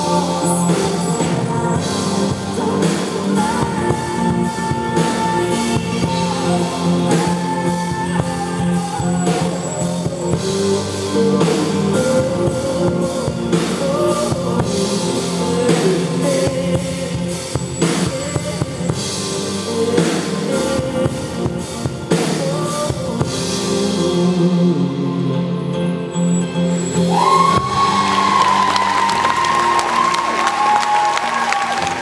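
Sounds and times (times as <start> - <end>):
pop-rock band playing: 0.0 - 32.0.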